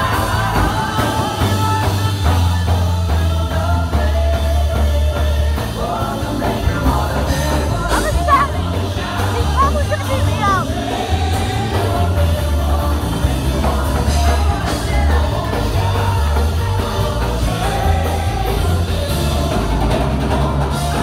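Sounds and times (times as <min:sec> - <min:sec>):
heavy bass line: 0:00.0 - 0:21.0
singing: 0:00.0 - 0:21.0
worship music over loudspeakers: 0:00.0 - 0:21.0.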